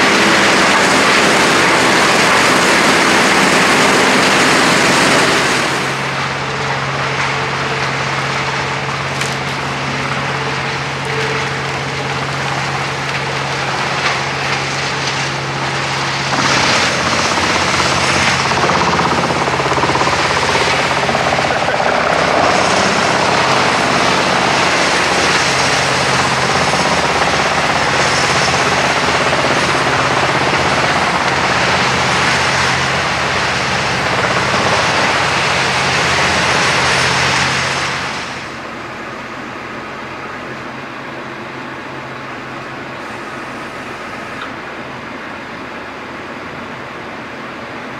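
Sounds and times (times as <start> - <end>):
wood chipper engine hum: 0.0 - 47.9.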